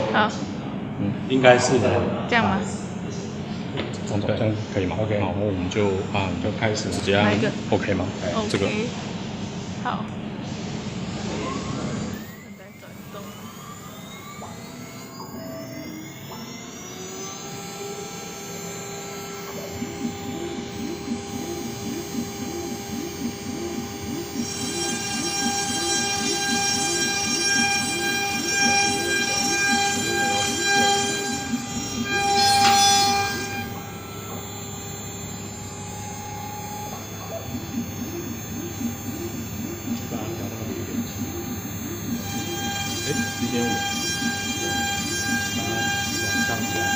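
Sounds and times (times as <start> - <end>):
router spindle whine rising: 0.0 - 9.7, 10.8 - 46.9
axis drives whirring: 0.0 - 46.9
stepper motor tones: 0.0 - 46.9.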